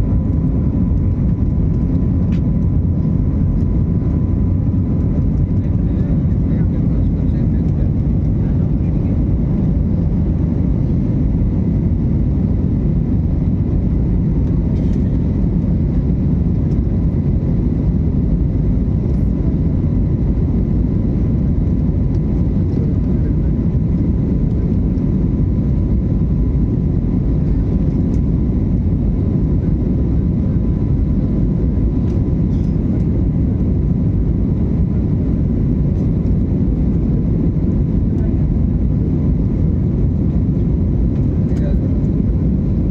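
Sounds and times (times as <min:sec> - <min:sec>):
jet engine rumble: 0:00.0 - 0:42.9.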